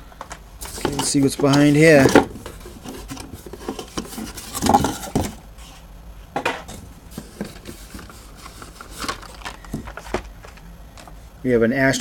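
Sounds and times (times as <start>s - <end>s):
plastic and cardboard clatter: 0.2s - 5.4s, 6.4s - 11.2s.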